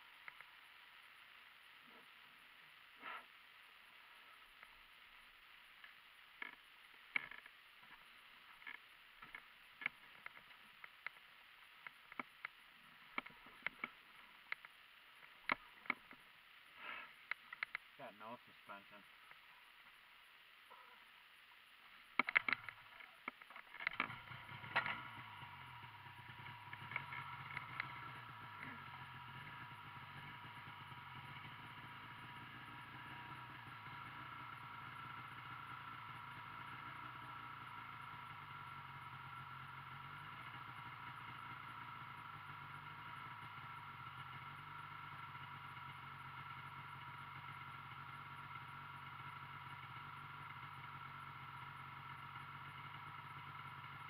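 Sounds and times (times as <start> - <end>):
snowmobile engine idling: 0.0 - 54.0.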